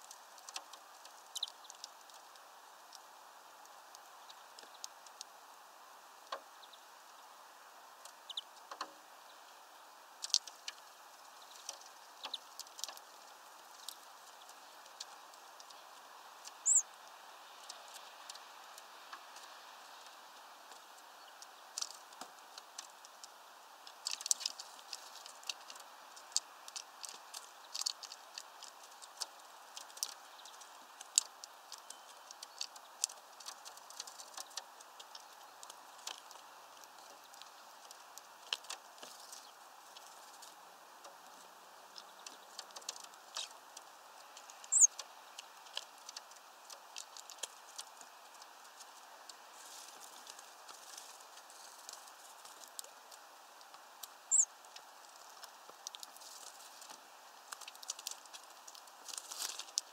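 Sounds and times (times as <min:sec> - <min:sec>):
steady hiss: 0:00.0 - 0:59.9
bird pecking at feeder: 0:10.2 - 0:59.9.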